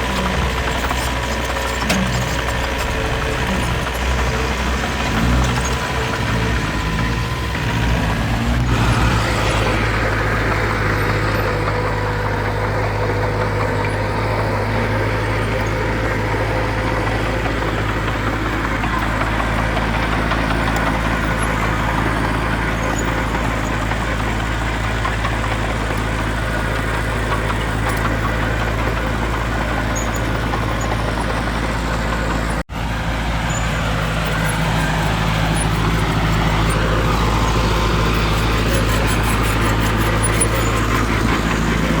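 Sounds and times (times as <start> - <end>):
diesel machinery engine running: 0.0 - 42.0.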